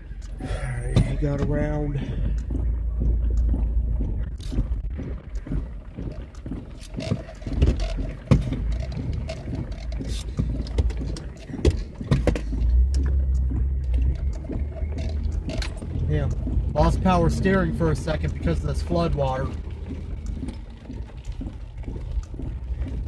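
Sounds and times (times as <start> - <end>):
truck engine humming: 0.0 - 23.0
water splashing against truck wheels: 0.0 - 23.0.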